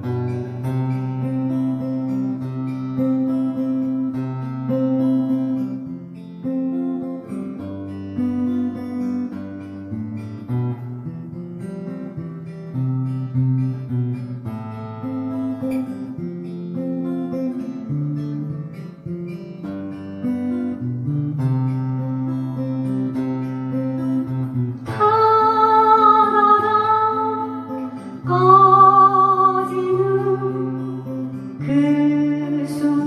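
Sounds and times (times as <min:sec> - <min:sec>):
acoustic guitar playing waltz: 0:00.0 - 0:33.0.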